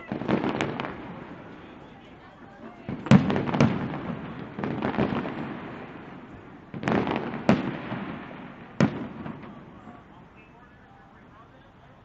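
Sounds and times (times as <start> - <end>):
fireworks bangs: 0.0 - 11.4
fireworks crackling: 0.0 - 12.0.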